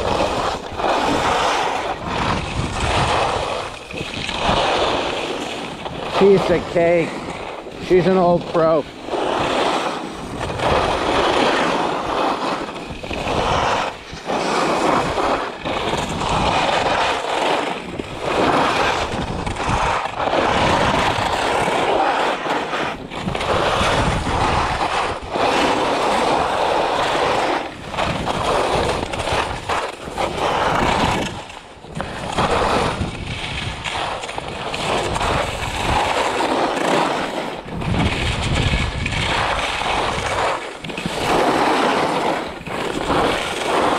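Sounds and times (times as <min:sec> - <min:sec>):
skis scraping across snow: 0:00.0 - 0:43.9.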